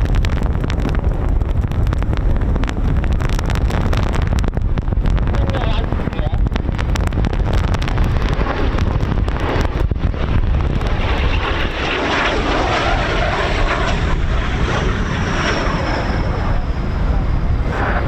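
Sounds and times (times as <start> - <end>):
jet aircraft engine noise: 0.0 - 18.0
wind buffeting on microphone: 0.0 - 18.0.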